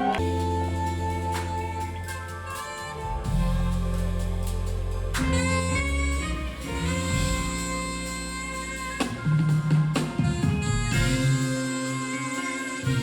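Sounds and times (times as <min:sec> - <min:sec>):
jazz band playing: 0:00.0 - 0:13.0.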